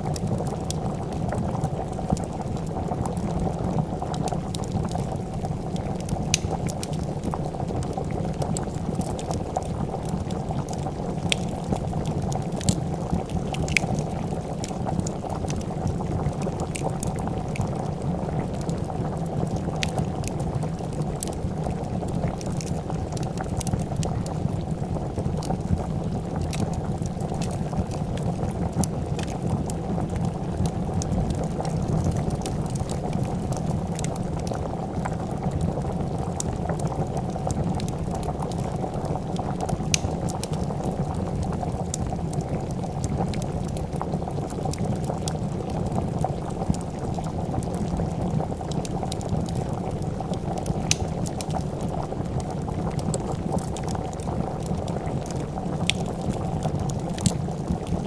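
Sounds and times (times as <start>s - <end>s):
soup bubbling at a boil: 0.0s - 58.0s
wood fire crackling: 0.0s - 58.0s.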